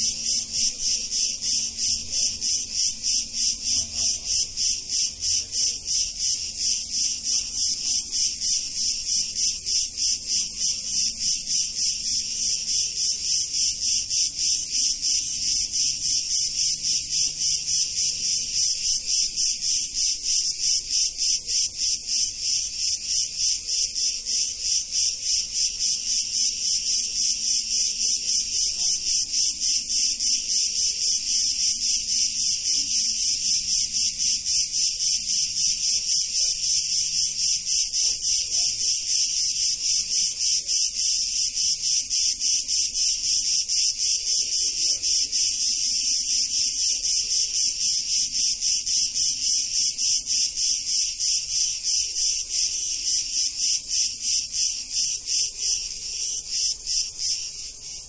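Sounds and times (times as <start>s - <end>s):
cicadas buzzing in chorus: 0.0s - 58.0s.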